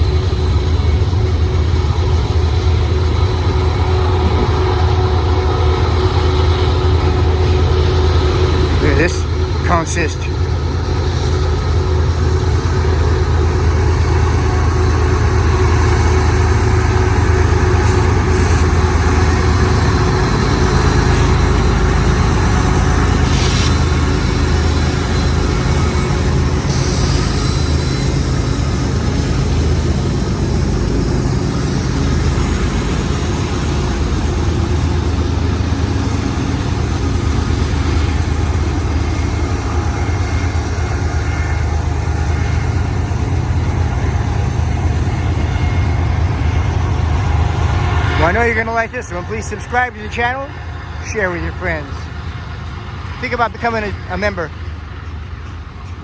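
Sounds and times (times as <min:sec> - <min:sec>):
diesel locomotive drone: 0:00.0 - 0:56.0
freight cars rumbling on rails: 0:00.0 - 0:56.0.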